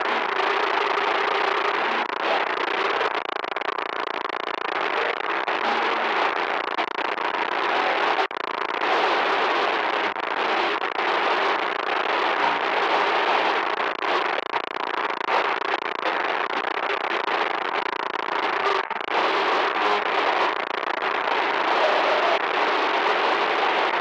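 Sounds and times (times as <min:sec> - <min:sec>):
harsh crackling static hiss: 0:00.0 - 0:24.0.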